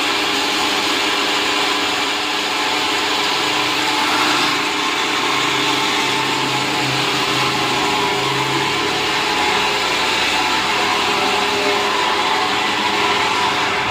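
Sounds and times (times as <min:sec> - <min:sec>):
electric fan whirring: 0:00.0 - 0:13.9.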